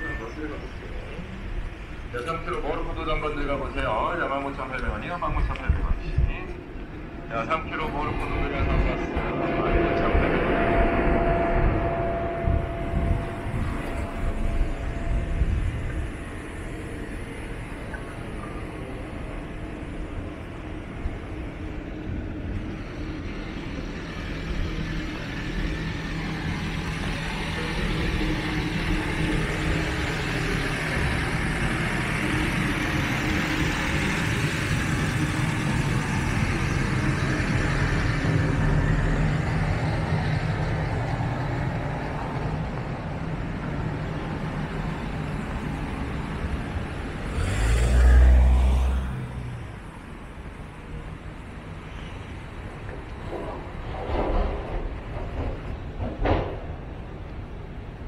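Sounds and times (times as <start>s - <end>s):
close vehicle rumble: 0.0s - 58.0s
road traffic: 0.0s - 58.0s.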